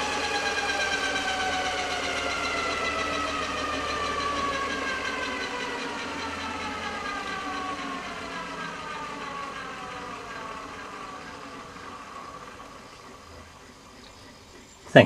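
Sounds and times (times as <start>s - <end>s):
electric motor whine falling in pitch: 0.0s - 14.6s.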